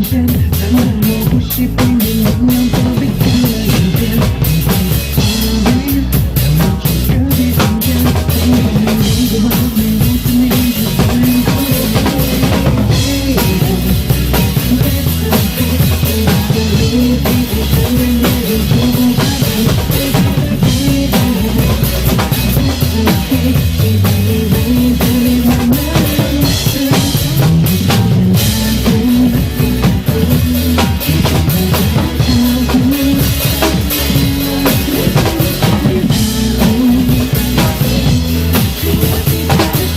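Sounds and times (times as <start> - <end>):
drum kit playing: 0.0 - 39.9
pop music backing track: 0.0 - 39.9.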